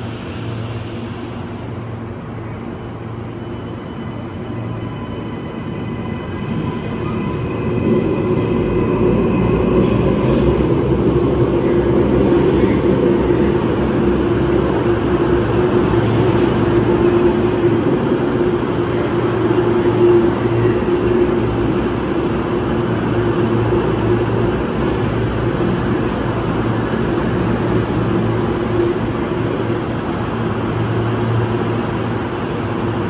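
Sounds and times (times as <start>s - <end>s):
electric train whine: 0.0s - 33.0s
train wheels rumbling: 0.0s - 33.0s.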